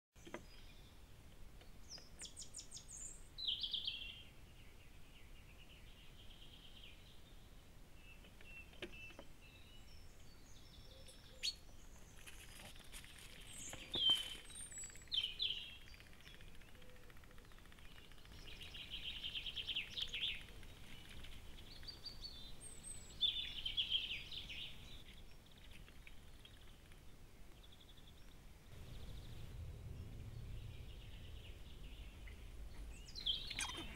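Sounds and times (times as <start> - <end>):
birds chirping and trilling: 0.2 - 33.9.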